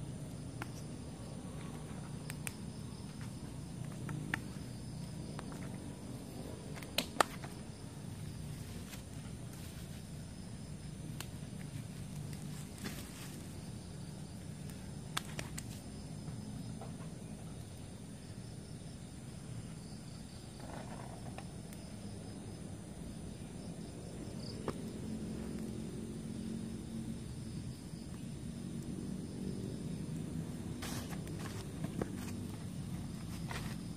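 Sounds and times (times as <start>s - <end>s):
night insects chirring: 0.0s - 33.9s.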